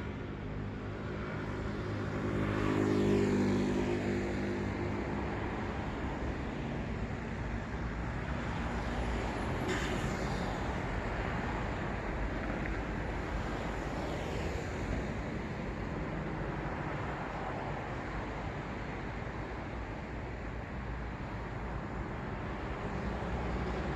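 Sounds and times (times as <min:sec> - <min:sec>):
road traffic rumble: 0:00.0 - 0:23.9
vehicles passing: 0:00.0 - 0:23.9.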